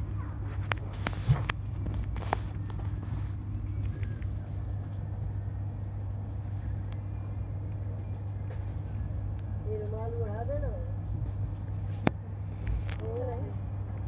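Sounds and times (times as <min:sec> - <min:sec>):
low rumble of a train: 0:00.0 - 0:14.0.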